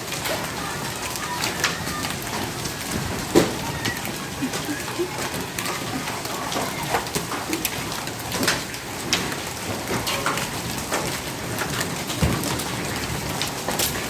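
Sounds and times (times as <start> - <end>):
hailstones knocking: 0.0 - 14.0
rain hissing: 0.0 - 14.0.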